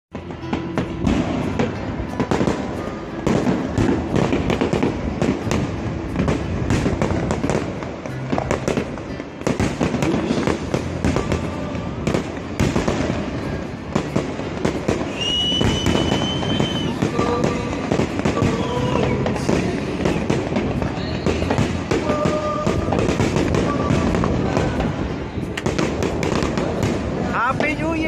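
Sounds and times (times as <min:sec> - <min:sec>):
fireworks and firecrackers bangs: 0:00.1 - 0:28.0.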